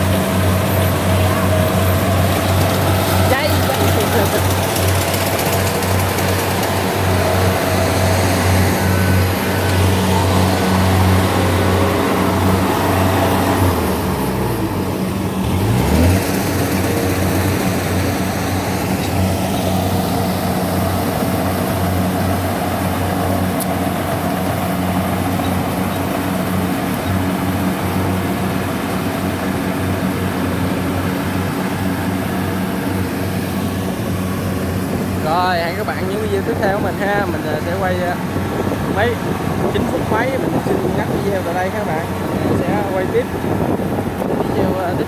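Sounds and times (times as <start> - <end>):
combine harvester diesel engine: 0.0 - 45.0.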